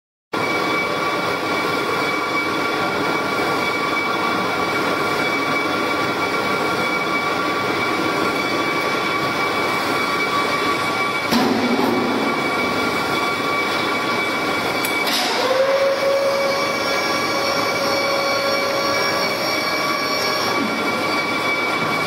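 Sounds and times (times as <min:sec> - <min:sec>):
high whining tones: 0:00.4 - 0:22.0
machinery hum: 0:00.4 - 0:22.0.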